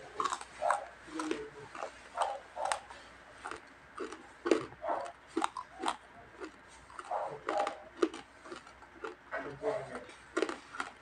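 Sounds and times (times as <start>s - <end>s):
person chewing crispy food: 0.0s - 11.0s.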